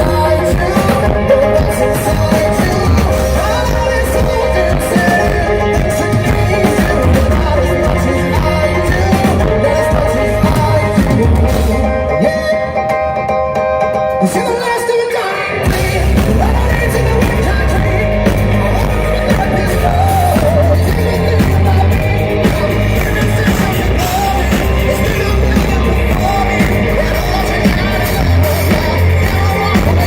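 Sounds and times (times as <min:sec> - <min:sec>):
lead singer singing: 0:00.0 - 0:30.0
live rock band playing: 0:00.0 - 0:30.0.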